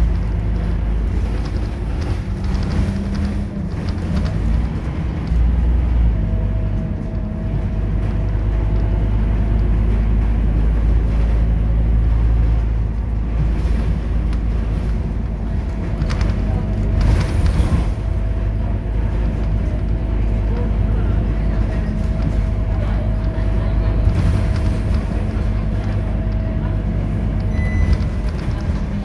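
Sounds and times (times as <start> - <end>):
bus engine drone: 0.0 - 29.0.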